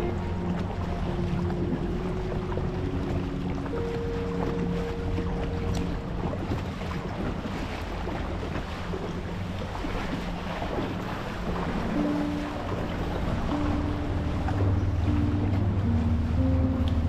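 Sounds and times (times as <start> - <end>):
soft background music: 0.0 - 17.0
water splashing around kayak: 0.0 - 17.0
wind rumbling on microphone: 0.0 - 17.0.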